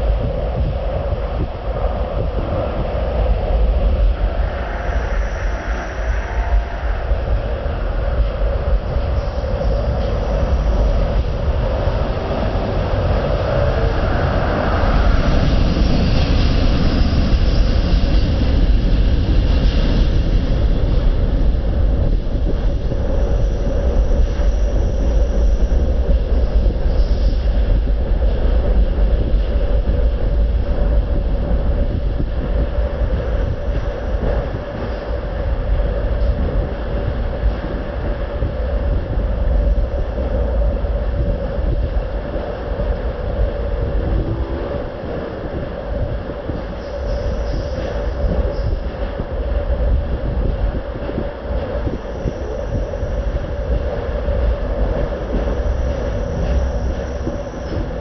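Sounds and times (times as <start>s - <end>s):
mid-pitched hum: 0.0s - 58.0s
moving vehicle rumble: 0.0s - 58.0s.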